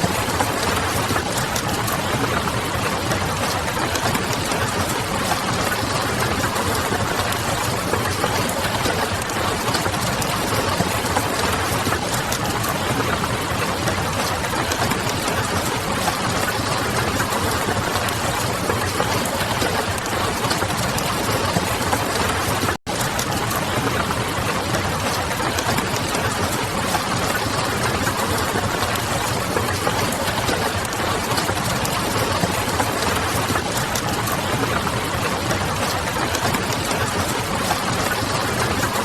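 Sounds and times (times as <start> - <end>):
rain on a window: 0.0 - 39.0.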